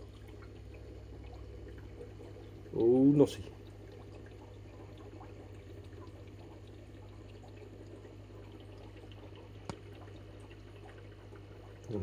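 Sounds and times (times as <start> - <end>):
aquarium water trickling: 0.0 - 12.0.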